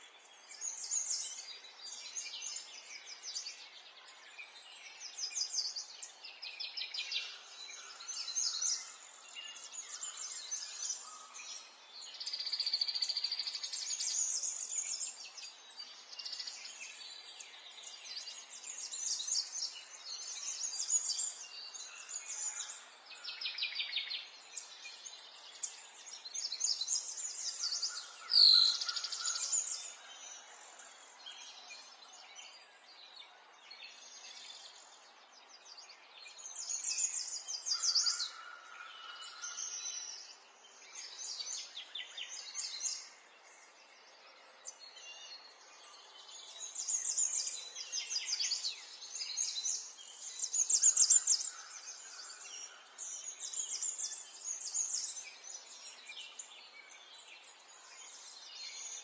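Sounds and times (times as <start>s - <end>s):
birds chirping and trilling: 0.4s - 33.0s, 33.7s - 59.0s.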